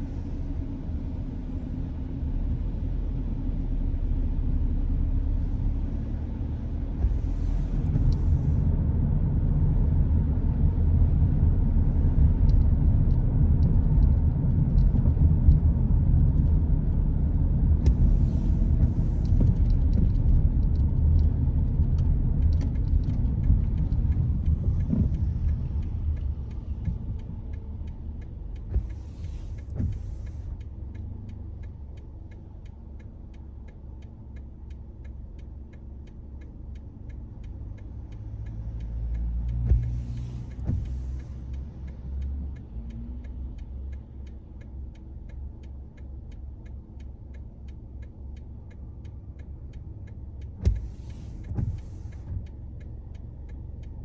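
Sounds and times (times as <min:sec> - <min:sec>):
car engine and tyre rumble: 0:00.0 - 0:54.0
windscreen wipers swishing: 0:05.2 - 0:54.0.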